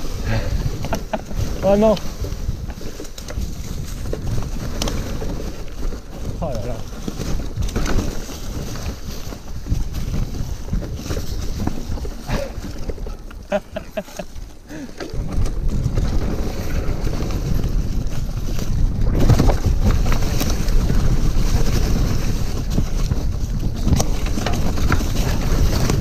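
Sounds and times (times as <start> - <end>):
bike knocks and rattles: 0.0 - 26.0
wind buffeting microphone: 0.0 - 26.0.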